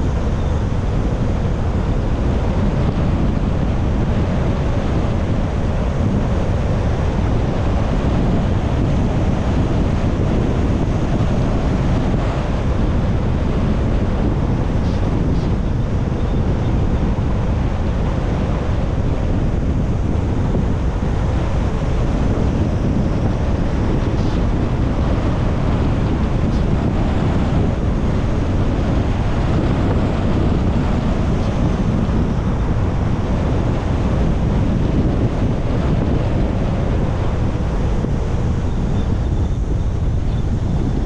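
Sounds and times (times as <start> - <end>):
car road and wind noise: 0.0 - 41.0.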